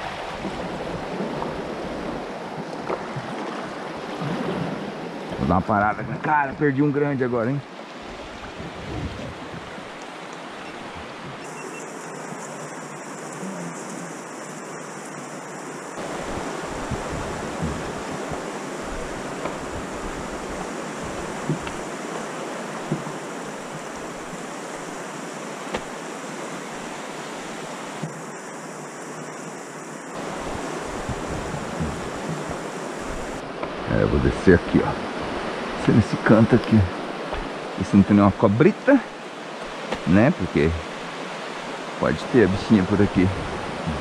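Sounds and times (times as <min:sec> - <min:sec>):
river water rushing over rapids: 0:00.0 - 0:44.0.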